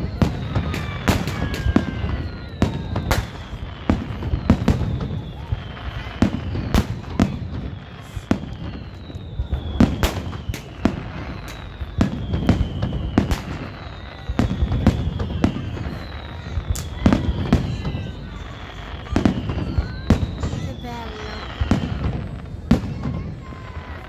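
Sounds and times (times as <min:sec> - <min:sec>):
firework bangs: 0:00.0 - 0:24.0
firework whistles sliding down: 0:00.0 - 0:24.0.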